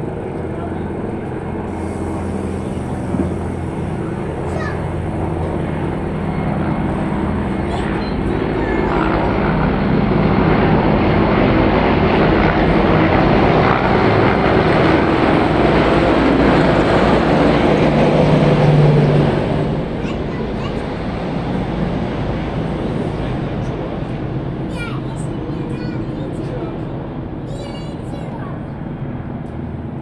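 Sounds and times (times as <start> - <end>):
helicopter rotor chop: 0.0 - 30.0
steady low hum: 0.0 - 30.0.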